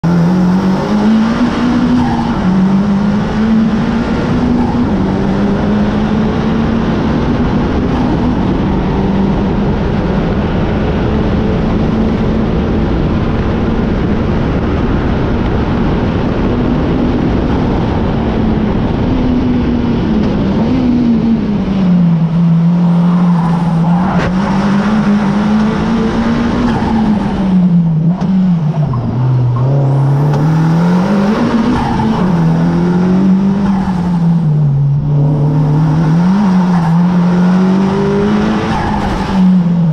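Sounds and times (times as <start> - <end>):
car engine at high revs: 0.0 - 39.9
road and wind noise: 0.0 - 39.9.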